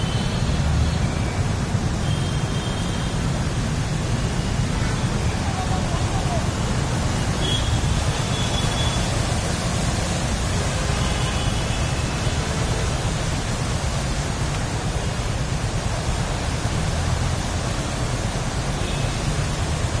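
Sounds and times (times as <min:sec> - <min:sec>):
floodwater rushing: 0:00.0 - 0:20.0
vehicles driving through water: 0:00.0 - 0:20.0.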